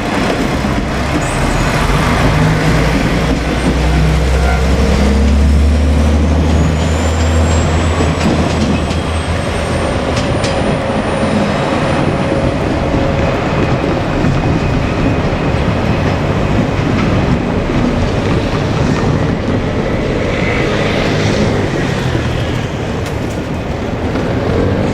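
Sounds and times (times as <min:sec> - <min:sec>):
diesel engine low drone: 0:00.0 - 0:24.9.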